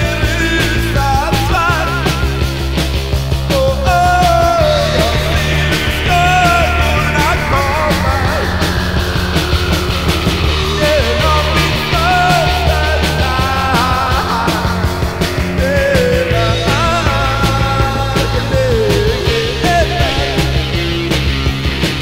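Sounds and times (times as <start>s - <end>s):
post-punk rock music: 0.0s - 22.0s.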